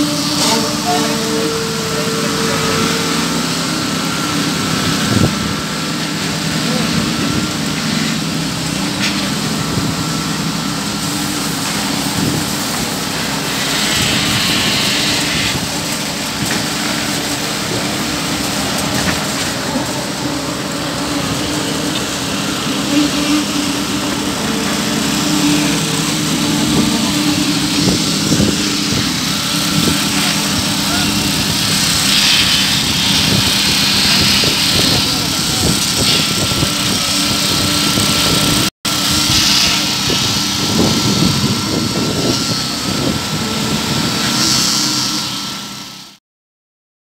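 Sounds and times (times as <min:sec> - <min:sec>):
diesel engines droning: 0:00.0 - 0:46.0.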